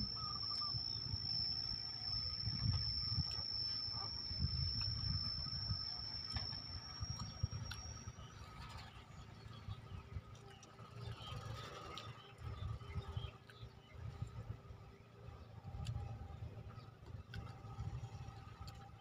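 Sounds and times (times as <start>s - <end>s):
high-pitched whine: 0.0s - 19.0s.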